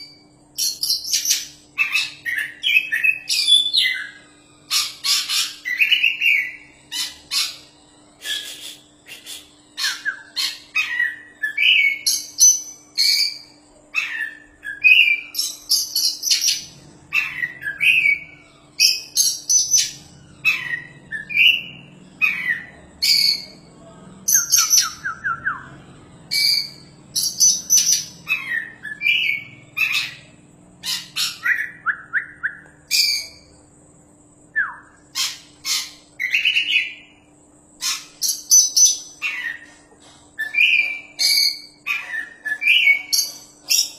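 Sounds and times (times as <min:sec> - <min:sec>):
bird singing whistles and trills: 0:00.0 - 0:23.6, 0:24.3 - 0:33.5, 0:34.5 - 0:39.6, 0:40.4 - 0:43.9
faint steady hum: 0:00.0 - 0:43.9.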